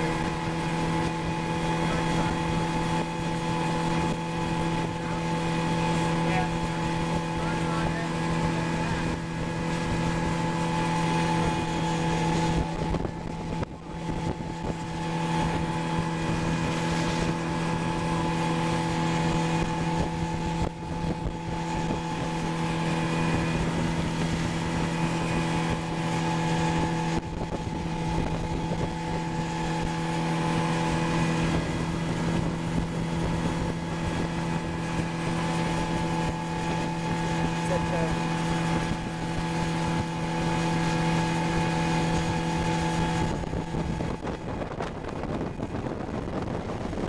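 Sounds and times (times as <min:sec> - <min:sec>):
boat engine drone: 0:00.0 - 0:47.0
wind buffeting microphone: 0:00.0 - 0:47.0.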